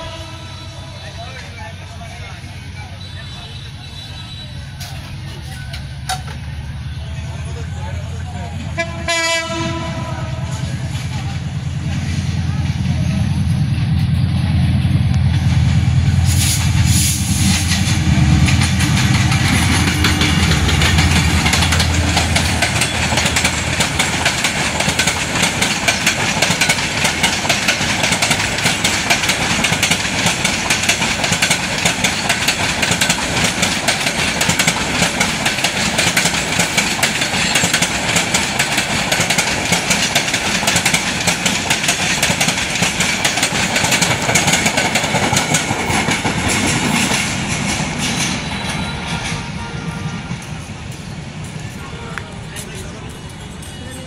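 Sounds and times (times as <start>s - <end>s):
locomotive engine passing: 0.0s - 54.0s
train wheels clattering on rails: 7.9s - 54.0s.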